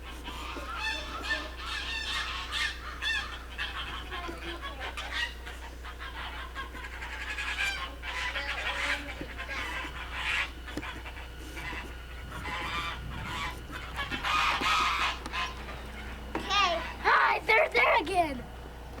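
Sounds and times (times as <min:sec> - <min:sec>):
poultry calling: 0:00.0 - 0:19.0.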